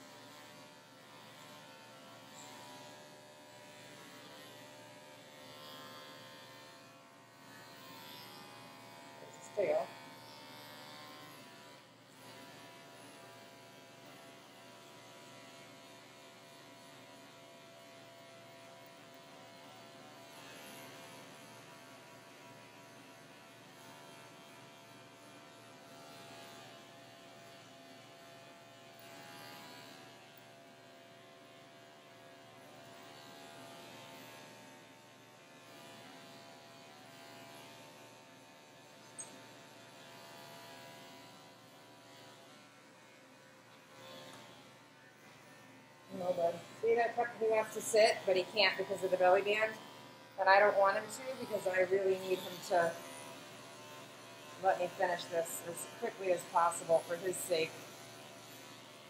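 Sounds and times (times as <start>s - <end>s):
electric clippers humming: 0.0s - 59.0s.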